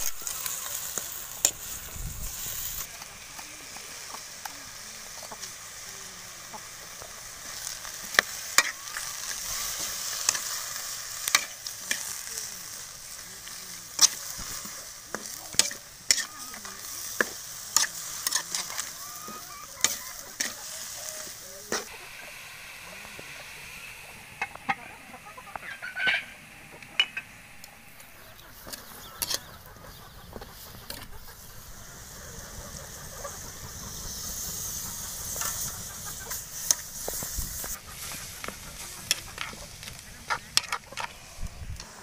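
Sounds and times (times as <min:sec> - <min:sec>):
shrimp sizzling in a pan: 0:00.0 - 0:42.0.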